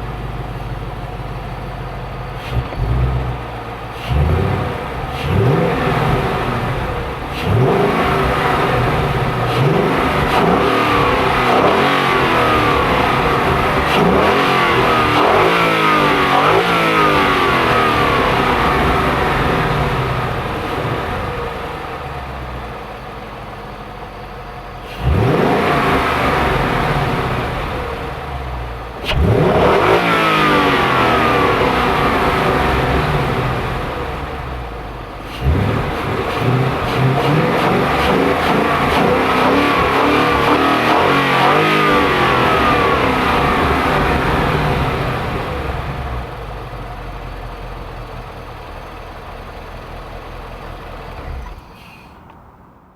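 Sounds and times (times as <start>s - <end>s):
car engine revving: 1.3s - 23.2s, 24.8s - 48.5s, 49.5s - 52.9s.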